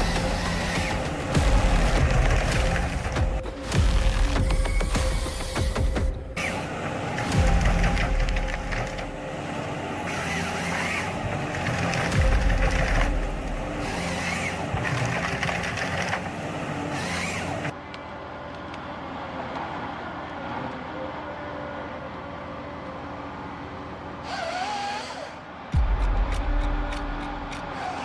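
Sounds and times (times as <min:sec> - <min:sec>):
heavy machinery engine running: 0:00.0 - 0:28.0.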